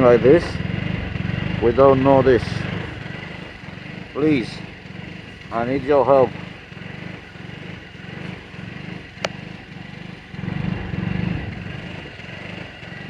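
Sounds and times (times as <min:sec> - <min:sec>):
rider speaking: 0:00.0 - 0:13.0
scooter engine idling: 0:00.0 - 0:13.0.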